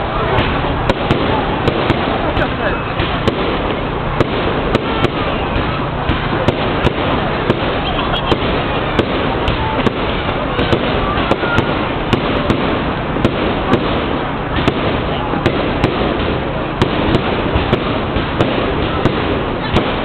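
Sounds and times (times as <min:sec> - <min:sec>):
dense steady din: 0:00.0 - 0:20.0
fireworks bangs and cracks: 0:00.0 - 0:20.0.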